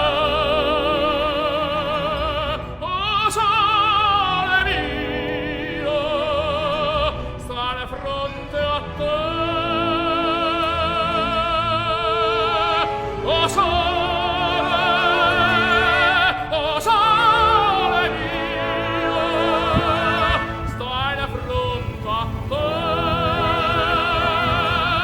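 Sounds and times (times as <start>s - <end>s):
operatic singing: 0.0s - 25.0s.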